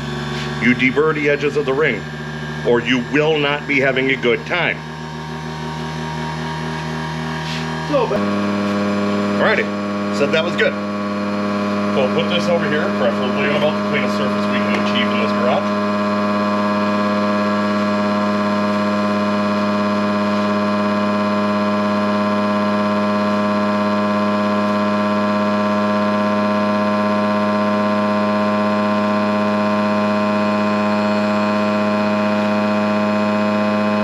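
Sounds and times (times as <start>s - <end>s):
small electric motor humming: 0.0s - 34.0s.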